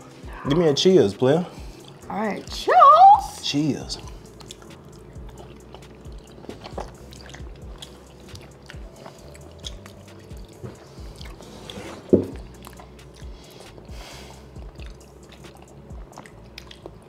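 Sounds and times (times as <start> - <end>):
people chewing dumplings: 1.5 - 2.1, 3.5 - 17.0.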